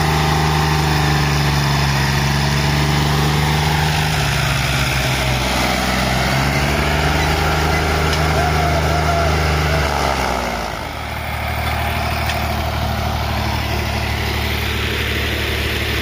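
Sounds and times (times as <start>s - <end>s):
tractor diesel engines under load: 0.0s - 16.0s.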